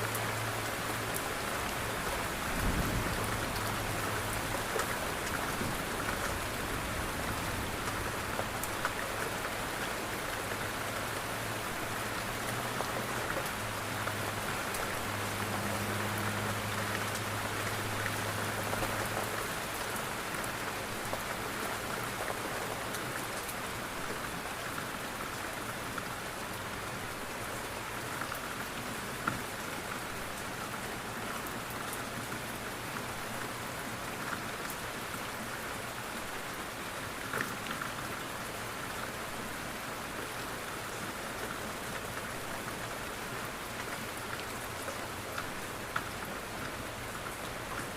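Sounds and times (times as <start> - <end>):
rain on a window: 0.0 - 47.9.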